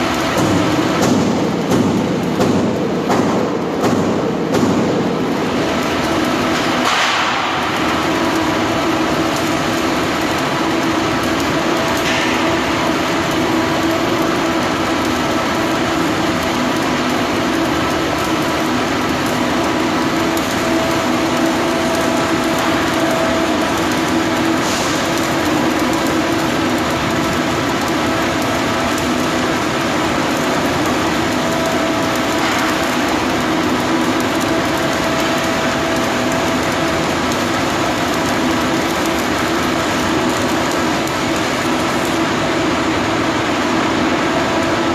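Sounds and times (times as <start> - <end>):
steady hum: 0.0 - 44.9
welding hiss: 0.0 - 44.9.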